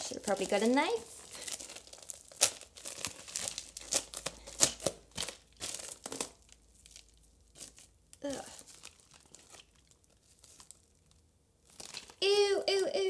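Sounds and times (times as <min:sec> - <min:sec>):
plastic bag crinkling: 0:00.0 - 0:12.3.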